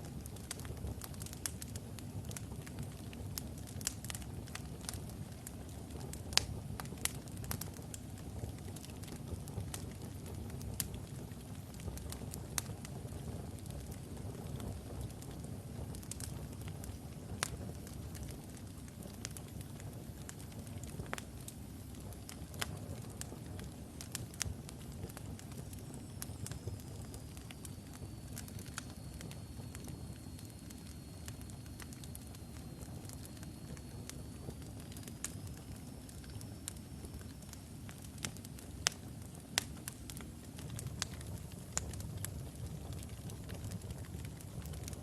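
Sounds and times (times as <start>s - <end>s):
fire crackling and popping: 0.0s - 45.0s.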